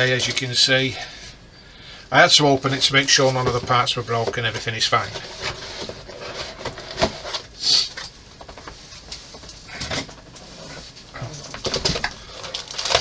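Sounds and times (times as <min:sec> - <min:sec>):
cardboard and plastic rustling: 0:00.0 - 0:00.9, 0:02.3 - 0:13.0.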